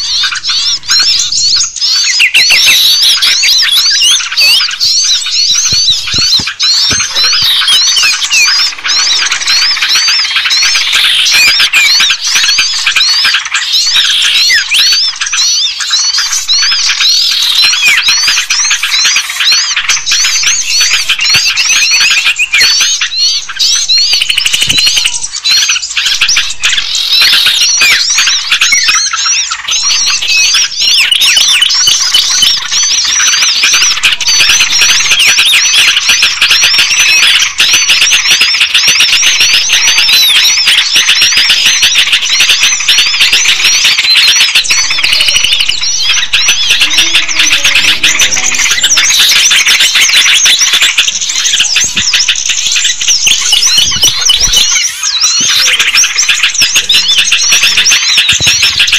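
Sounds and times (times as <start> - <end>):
songbirds chirping and twittering: 0.0 - 58.9.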